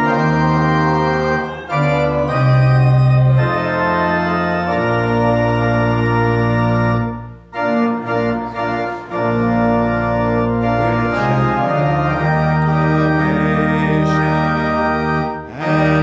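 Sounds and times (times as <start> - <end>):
organ playing a hymn: 0.0 - 16.0.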